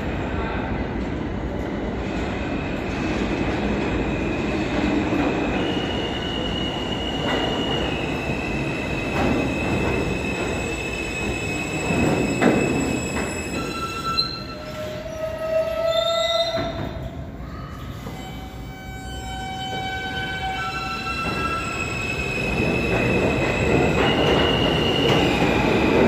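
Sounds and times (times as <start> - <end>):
rumble of train cars: 0.0 - 26.0
train wheels squealing: 2.7 - 17.1, 18.0 - 26.0.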